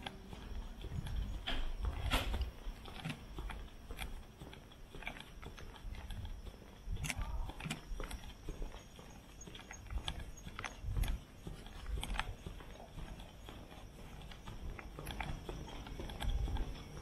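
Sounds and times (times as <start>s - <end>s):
footsteps on pavement: 0.0s - 17.0s.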